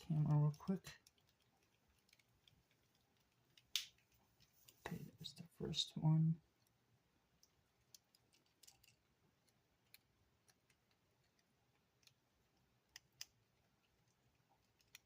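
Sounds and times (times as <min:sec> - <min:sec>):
small plastic parts clicking: 0:00.0 - 0:04.5, 0:07.4 - 0:15.0.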